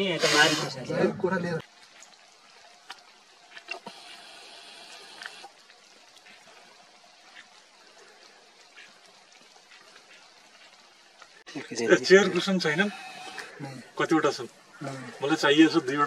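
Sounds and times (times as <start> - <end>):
faint trickling water: 0.0 - 16.0.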